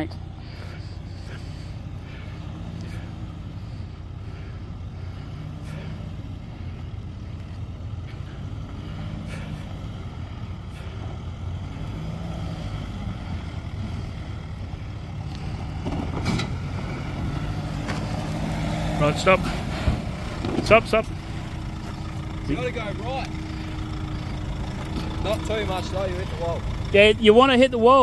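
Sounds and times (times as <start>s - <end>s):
vehicle engine at low revs: 0.0s - 28.0s.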